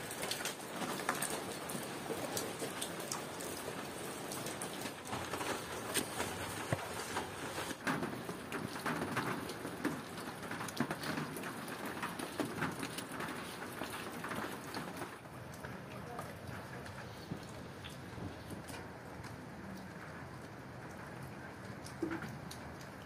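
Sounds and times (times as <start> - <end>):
steady rain: 0.0 - 23.0
water drips and taps: 0.1 - 23.0.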